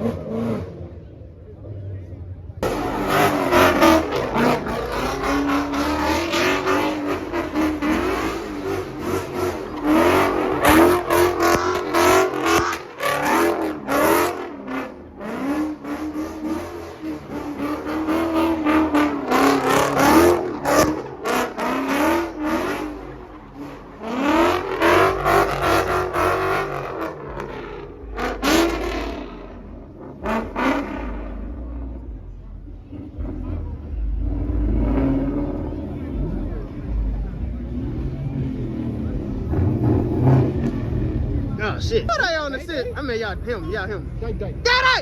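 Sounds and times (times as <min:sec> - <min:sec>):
car engine revving: 0:00.0 - 0:44.6.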